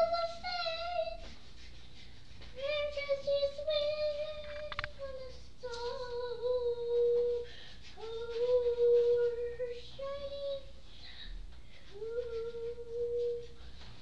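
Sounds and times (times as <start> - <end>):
small child singing: 0.0 - 1.4, 2.5 - 10.8, 11.8 - 13.7.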